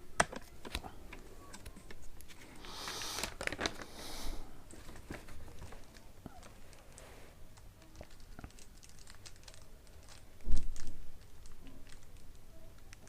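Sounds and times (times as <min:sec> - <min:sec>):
handling clicks and rustling: 0:00.0 - 0:03.9, 0:04.6 - 0:13.0.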